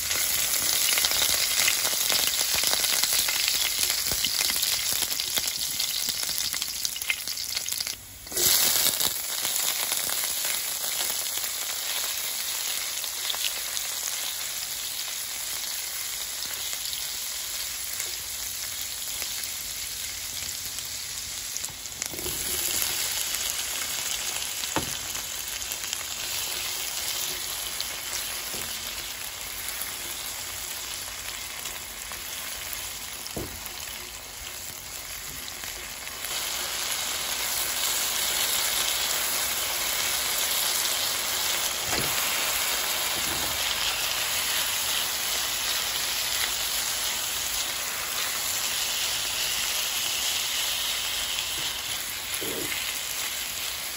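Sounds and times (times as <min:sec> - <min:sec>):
vegetables sizzling in oil: 0:00.0 - 0:53.9.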